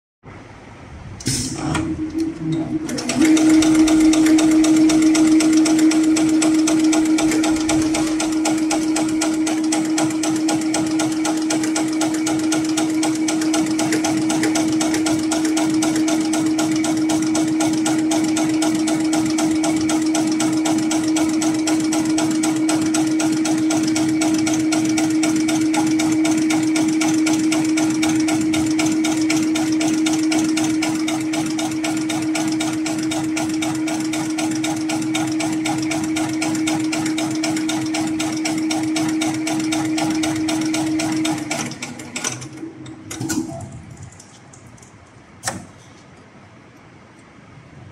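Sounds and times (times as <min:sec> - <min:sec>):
sewing machine needle stitching: 0:01.8 - 0:43.6.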